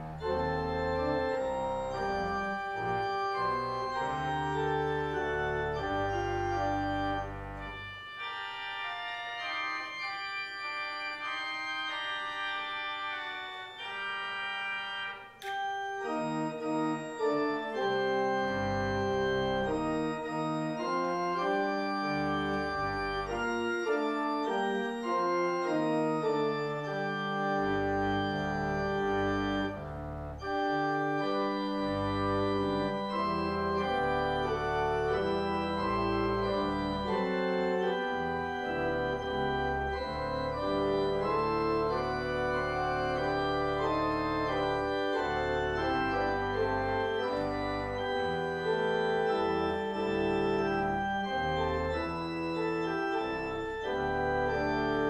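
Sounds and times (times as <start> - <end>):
church organ playing chords: 0.0 - 55.0.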